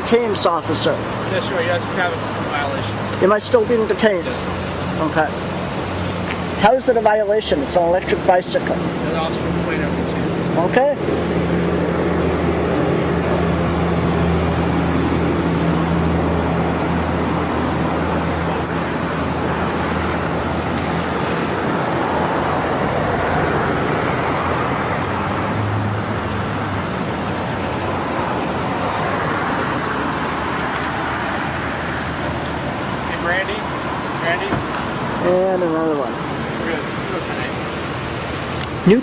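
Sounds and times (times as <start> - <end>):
passing road traffic: 0.0 - 39.0
vehicle engine humming: 0.0 - 39.0.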